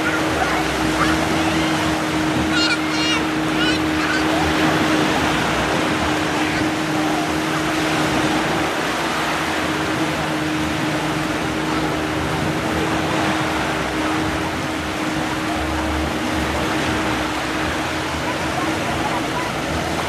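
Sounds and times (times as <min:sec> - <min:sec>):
low drone: 0:00.0 - 0:20.0
sea surf: 0:00.0 - 0:20.0.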